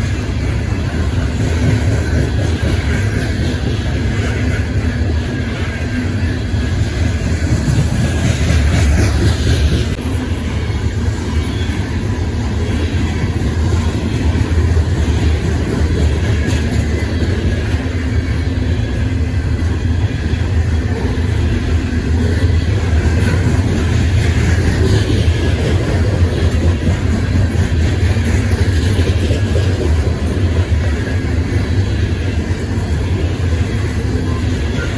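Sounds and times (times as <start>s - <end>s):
freight train rumbling on rails: 0.0s - 34.9s.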